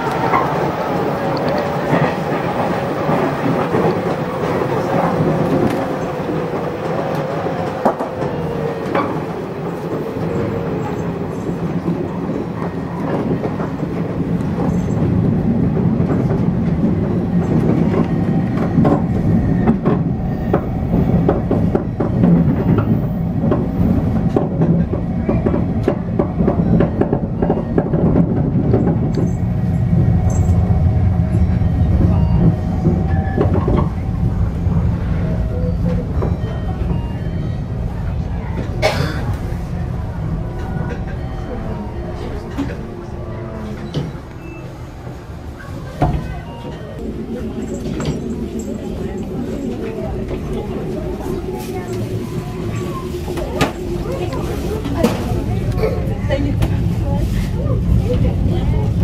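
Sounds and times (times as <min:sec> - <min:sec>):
rail joint clicks: 0:00.0 - 0:55.8
train wheels rumbling: 0:00.0 - 0:59.0.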